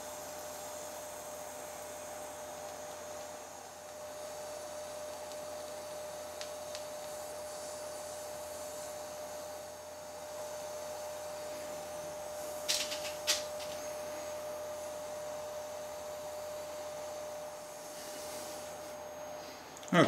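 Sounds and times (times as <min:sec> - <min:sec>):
constant high hum: 0:00.0 - 0:20.0
gas torch flame hissing: 0:00.0 - 0:20.0.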